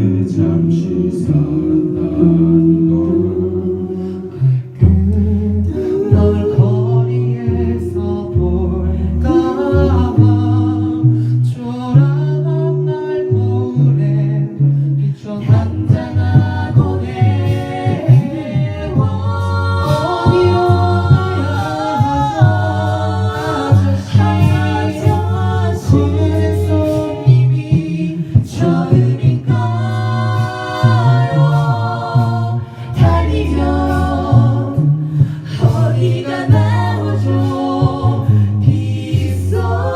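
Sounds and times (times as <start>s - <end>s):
sung bass line: 0.0s - 39.9s
vocal group singing in harmony: 0.0s - 39.9s.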